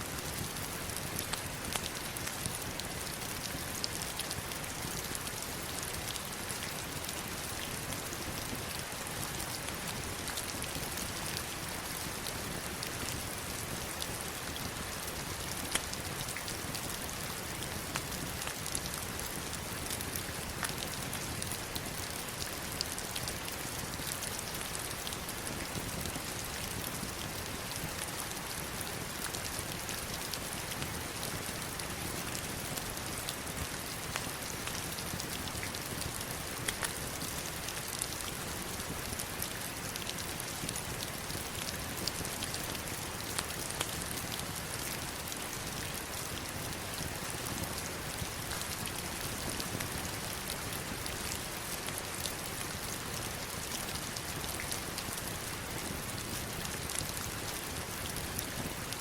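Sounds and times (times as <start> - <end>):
heavy rain on stones and water: 0.0 - 59.0.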